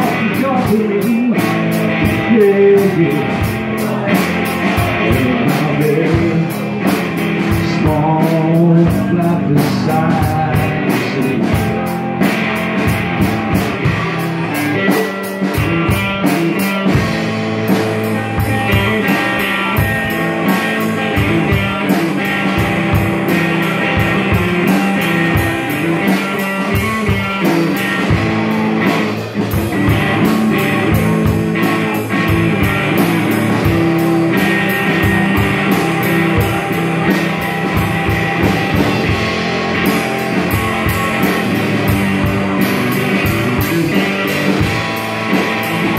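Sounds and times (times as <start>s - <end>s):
instrumental rock guitar and drums: 0.0s - 45.9s.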